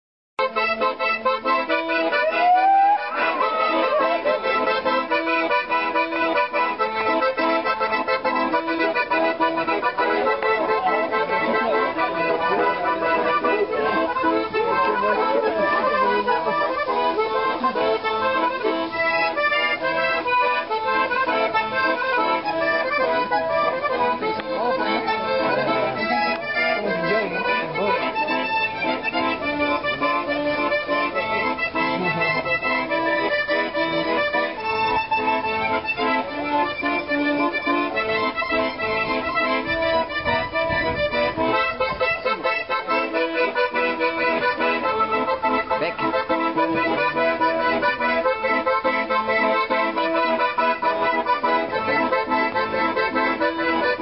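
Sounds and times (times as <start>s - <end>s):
accordion playing a tune: 0.4s - 54.0s.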